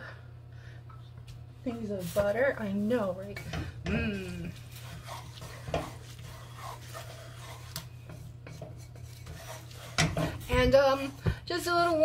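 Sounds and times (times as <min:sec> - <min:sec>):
steady low hum: 0:00.0 - 0:12.0
wooden spoon scraping pot: 0:02.2 - 0:12.0.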